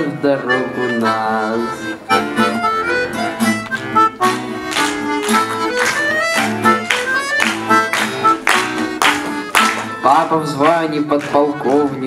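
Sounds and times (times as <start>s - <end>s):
accordion melody: 0.0s - 12.0s
acoustic guitar strumming: 0.0s - 12.0s.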